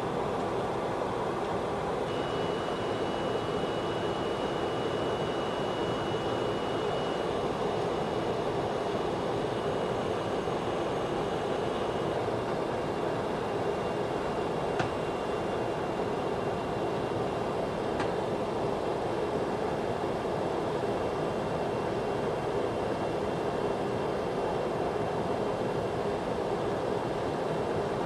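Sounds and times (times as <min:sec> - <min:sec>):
cockpit airflow and engine noise: 0:00.0 - 0:28.0.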